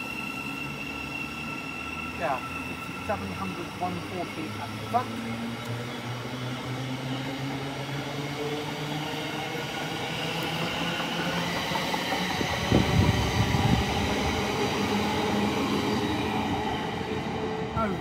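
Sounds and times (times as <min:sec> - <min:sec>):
electric train motors humming: 0:00.0 - 0:18.0.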